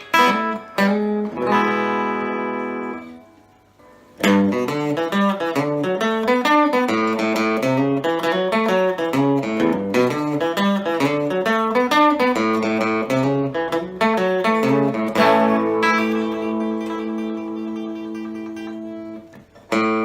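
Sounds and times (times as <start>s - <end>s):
electric guitar notes and chords: 0.0s - 20.0s.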